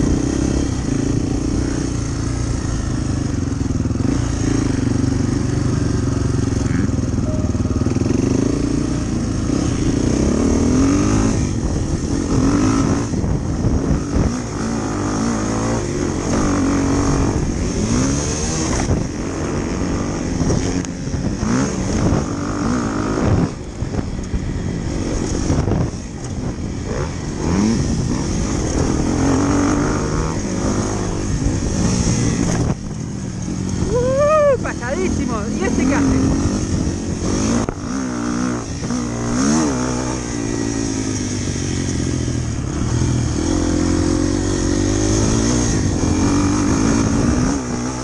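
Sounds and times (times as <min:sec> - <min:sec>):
motorcycle engine revving: 0:00.0 - 0:48.0
wind and road noise: 0:00.0 - 0:48.0.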